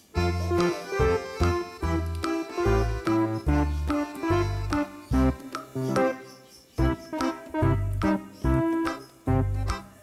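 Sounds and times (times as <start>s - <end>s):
light bouncy background music: 0.1s - 10.0s.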